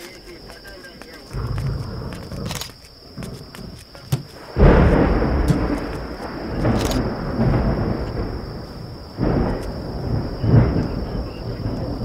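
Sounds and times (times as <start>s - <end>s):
deep rumble: 1.3s - 12.0s.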